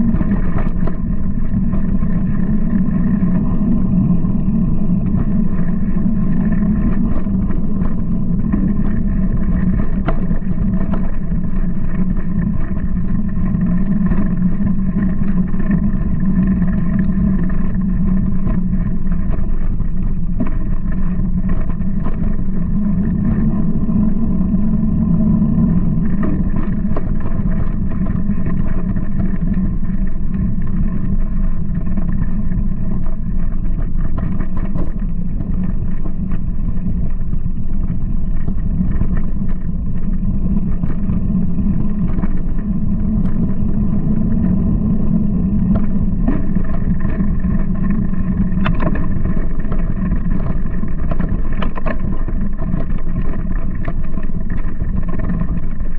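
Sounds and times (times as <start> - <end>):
wind rumble on microphone: 0.0 - 55.9.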